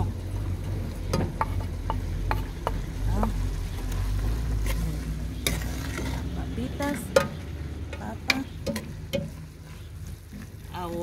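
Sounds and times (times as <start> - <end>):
metal spoon stirring: 0.0 - 11.0
steady sizzle: 0.0 - 11.0.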